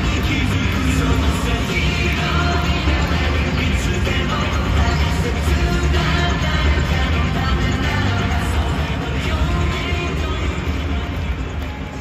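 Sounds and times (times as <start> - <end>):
song with singing over loudspeakers: 0.0 - 12.0.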